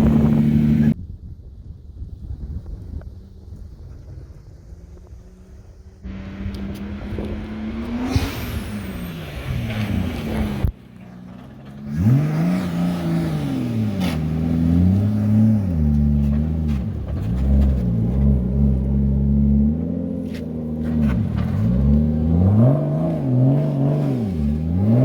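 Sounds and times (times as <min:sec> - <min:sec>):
car engine revving: 0:00.0 - 0:01.0, 0:04.0 - 0:25.0.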